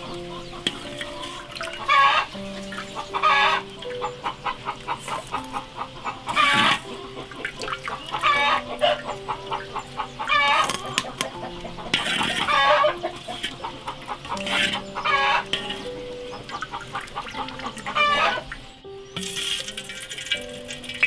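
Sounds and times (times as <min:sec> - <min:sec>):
chickens clucking: 0:00.0 - 0:21.0
faint background music: 0:00.0 - 0:21.0.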